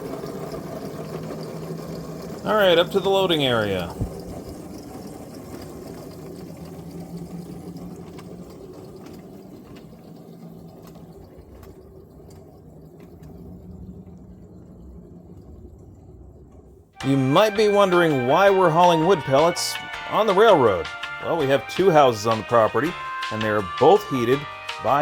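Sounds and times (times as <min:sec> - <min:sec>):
wheels rumbling on rails: 0:00.0 - 0:25.0.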